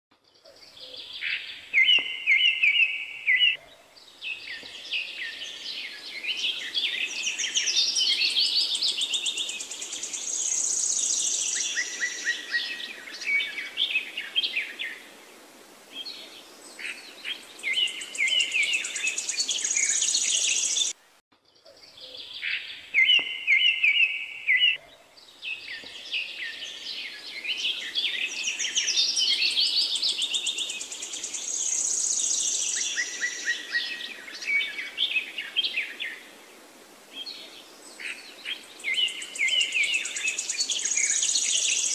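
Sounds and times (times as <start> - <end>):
songbirds chirping and trilling: 0.2 - 41.9.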